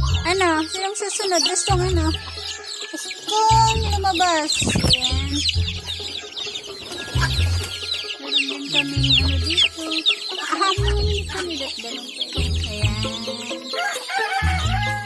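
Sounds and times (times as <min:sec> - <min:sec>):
background music with low beat: 0:00.0 - 0:15.0
chicks peeping: 0:00.0 - 0:15.0.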